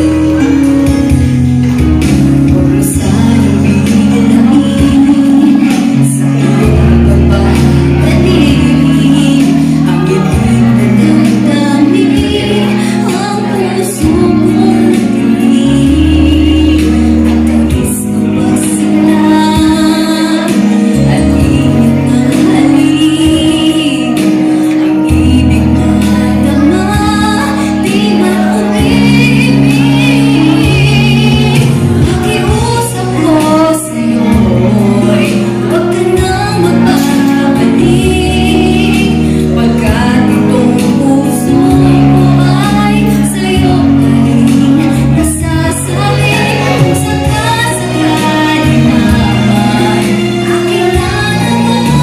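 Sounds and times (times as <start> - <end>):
instrumental accompaniment: 0.0 - 52.0
woman singing into microphone: 0.0 - 52.0.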